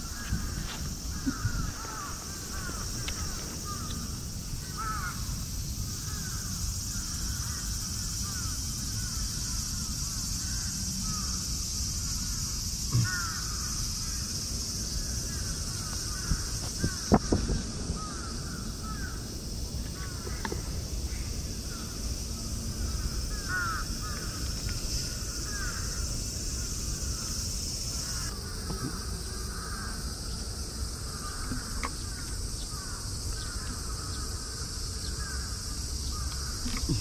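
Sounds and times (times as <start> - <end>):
flock of birds chirping: 0.0 - 37.0
steady high hiss: 0.0 - 37.0.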